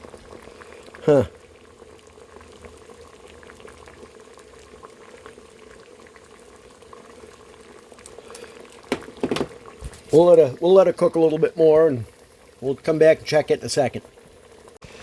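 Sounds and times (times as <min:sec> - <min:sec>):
water boiling in a metal can: 0:00.0 - 0:15.0.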